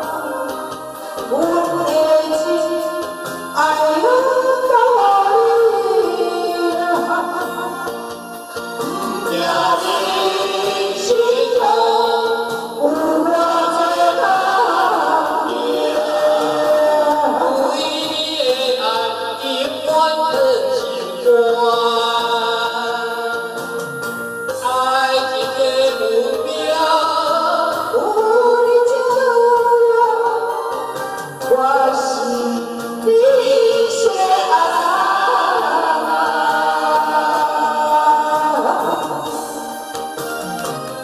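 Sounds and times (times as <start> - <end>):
man and woman singing duet: 0.0 - 39.8
karaoke backing track: 0.0 - 41.0.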